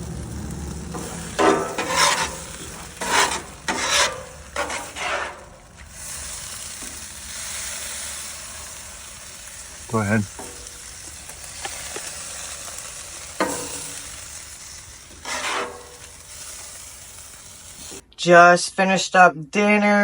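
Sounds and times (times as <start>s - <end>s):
food sizzling on a griddle: 0.0s - 18.0s
spatula scraping griddle: 0.0s - 18.0s.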